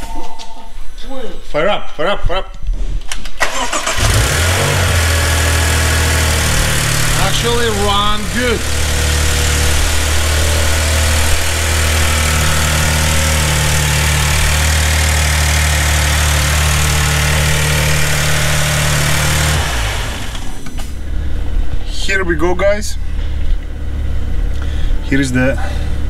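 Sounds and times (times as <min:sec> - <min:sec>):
car engine idling: 0:03.5 - 0:26.0.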